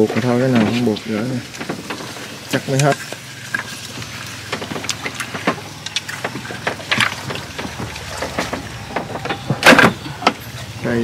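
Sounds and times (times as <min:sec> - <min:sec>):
fish trap clicking and rattling: 0:01.5 - 0:10.5.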